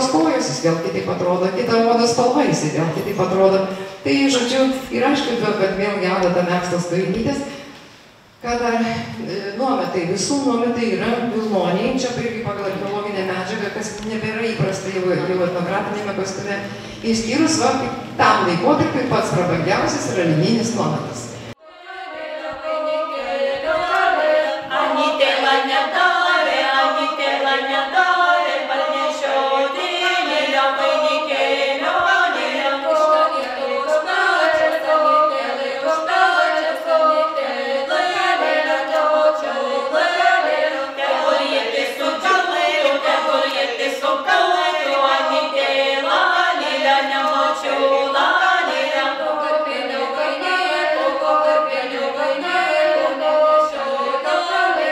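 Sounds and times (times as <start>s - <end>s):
group singing unaccompanied: 10.9s - 54.9s.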